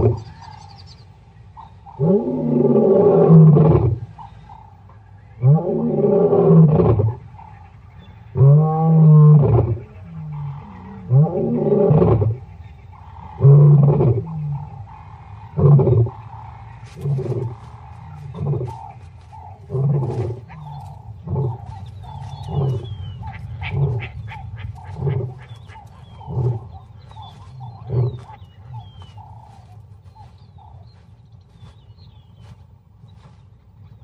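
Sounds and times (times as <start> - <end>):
lion roaring and grunting: 0.0 - 0.4, 1.9 - 4.1, 5.3 - 7.5, 8.2 - 30.9
faint bird chirps: 0.0 - 2.0, 7.1 - 34.0.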